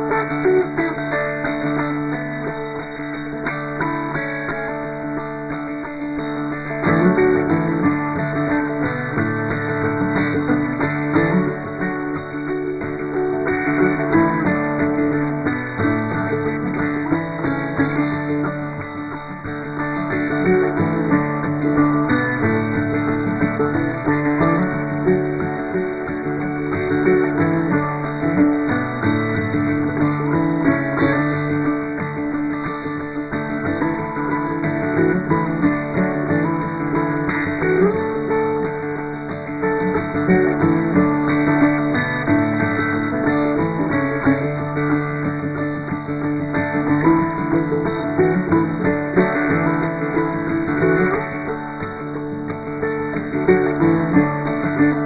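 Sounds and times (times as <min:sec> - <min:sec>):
plucked acoustic guitar music: 0:00.0 - 0:55.0.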